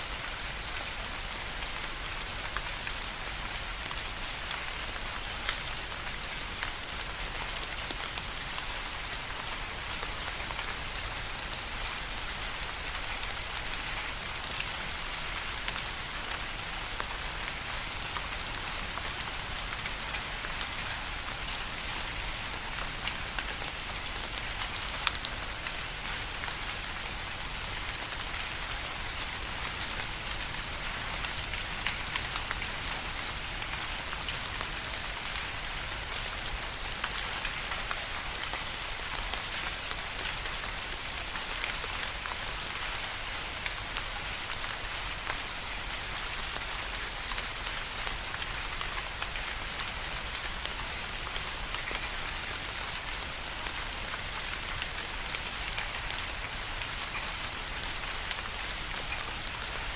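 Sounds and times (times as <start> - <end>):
steady rain with pattering drops: 0.0 - 59.9.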